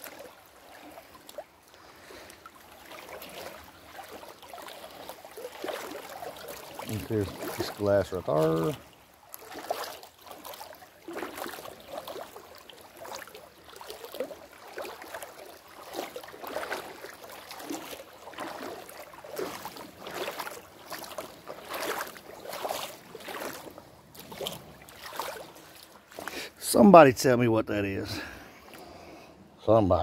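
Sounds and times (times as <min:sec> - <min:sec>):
footsteps wading in water: 0:00.0 - 0:29.2.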